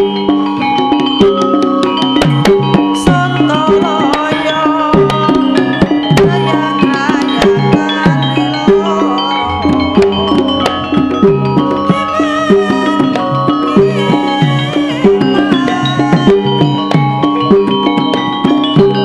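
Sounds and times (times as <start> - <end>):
hand-drum strokes: 0.0 - 19.0
metallophone and gong-chime tones: 0.0 - 19.0
wavering melodic line: 0.0 - 19.0.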